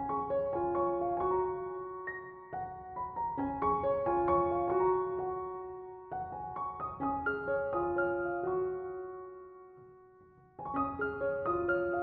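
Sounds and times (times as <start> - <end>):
gentle slow melody: 0.0 - 12.0.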